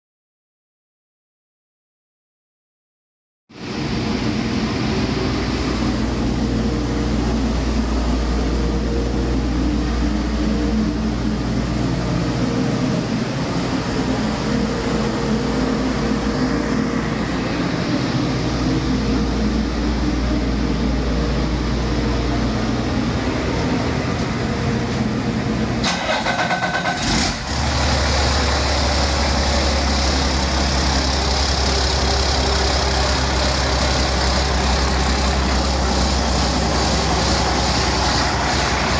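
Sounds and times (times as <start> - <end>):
diesel engine running: 3.6 - 38.9.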